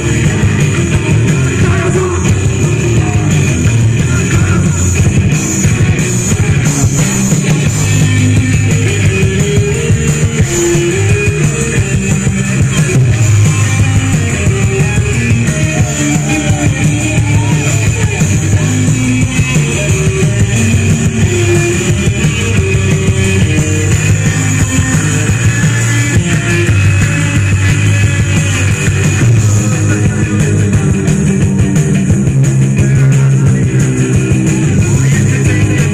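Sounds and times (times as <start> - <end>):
rock band playing loud: 0.0 - 35.9.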